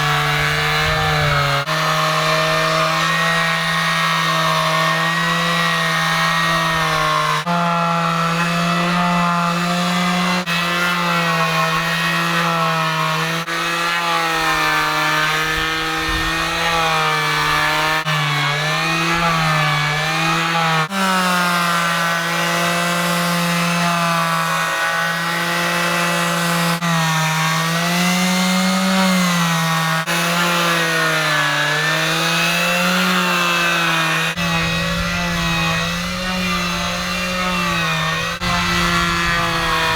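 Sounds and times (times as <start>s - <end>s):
power sander on boat hull: 0.0s - 39.9s.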